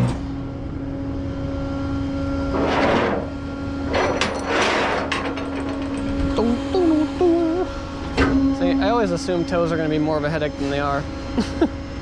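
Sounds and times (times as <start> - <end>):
tow truck engine humming: 0.0 - 2.6, 4.8 - 12.0.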